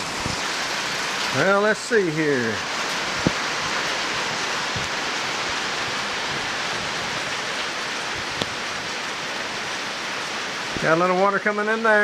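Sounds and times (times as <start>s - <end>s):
rain drumming on a metal roof: 0.0s - 12.0s.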